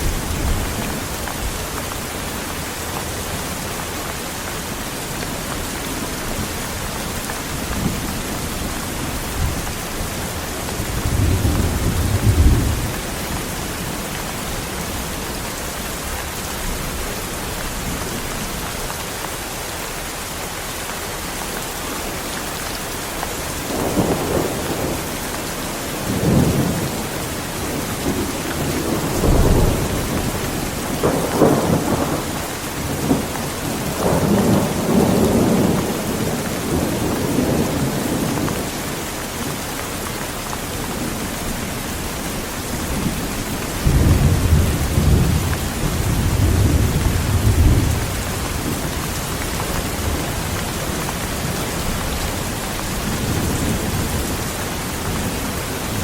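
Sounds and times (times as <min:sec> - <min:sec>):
thunder rumbling: 0:00.0 - 0:15.3, 0:23.7 - 0:25.2, 0:25.9 - 0:38.7, 0:40.8 - 0:56.0
heavy rain falling: 0:00.0 - 0:56.0.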